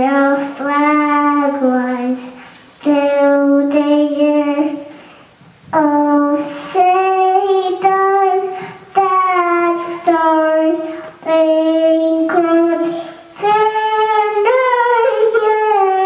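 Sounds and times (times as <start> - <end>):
girl singing into a microphone: 0.0 - 16.0.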